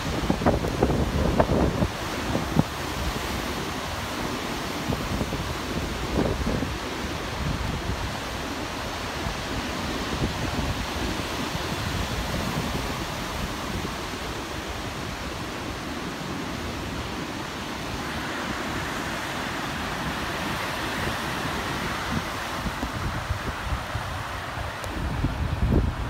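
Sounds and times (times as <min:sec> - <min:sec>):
surf breaking on stony beach: 0:00.0 - 0:26.0
wind buffeting microphone: 0:00.0 - 0:26.0.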